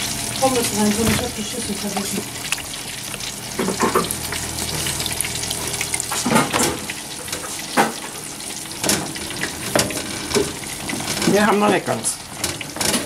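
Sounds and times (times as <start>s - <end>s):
oil sizzling deep-frying: 0.0s - 13.0s.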